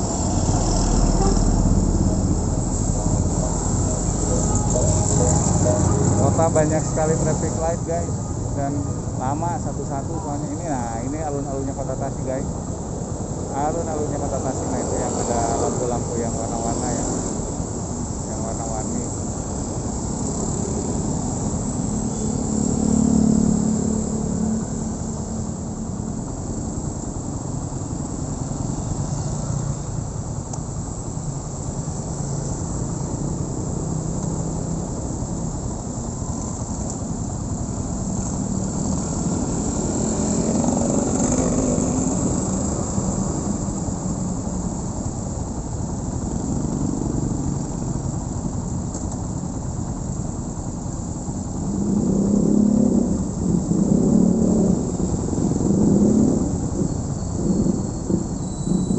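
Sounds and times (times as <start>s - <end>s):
road noise: 0.0s - 58.9s.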